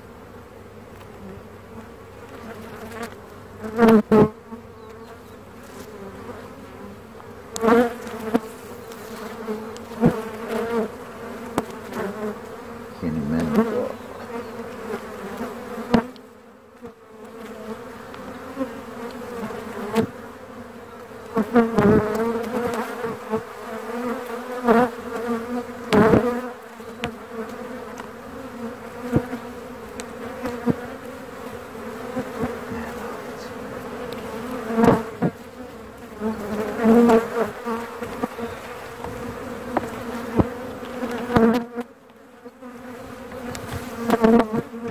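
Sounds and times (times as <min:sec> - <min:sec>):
bees humming: 0:00.0 - 0:44.9.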